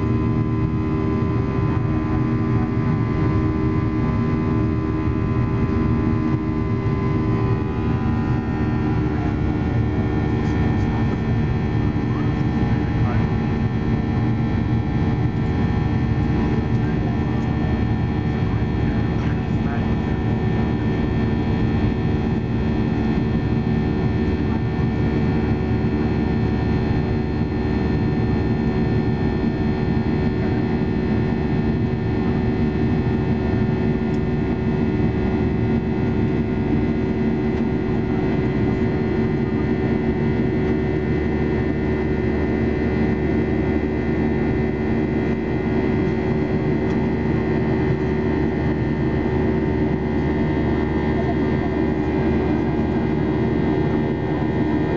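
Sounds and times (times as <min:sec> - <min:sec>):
jet engine cabin drone: 0:00.0 - 0:54.9.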